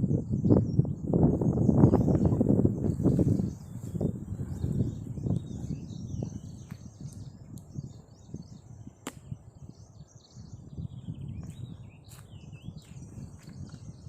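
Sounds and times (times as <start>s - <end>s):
birds chirping and warbling: 0.0s - 14.0s.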